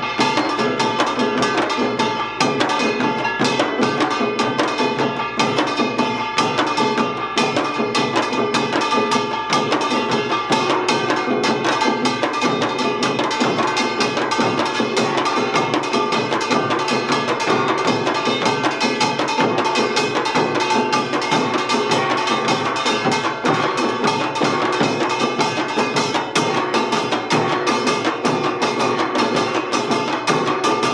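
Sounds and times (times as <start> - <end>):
drums beating fast: 0.0 - 30.9
metal gongs ringing: 0.0 - 30.9.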